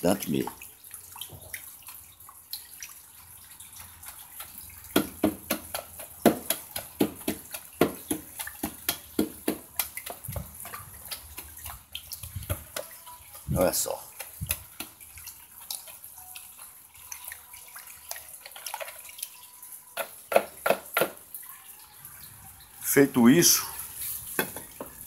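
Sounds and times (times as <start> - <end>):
water sloshing in a bucket: 0.0 - 25.0.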